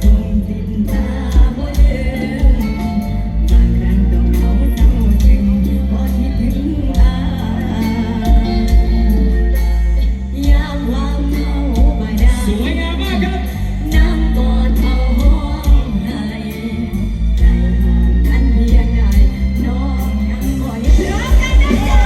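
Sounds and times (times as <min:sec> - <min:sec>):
live band playing: 0:00.0 - 0:22.0
woman singing: 0:00.0 - 0:22.0.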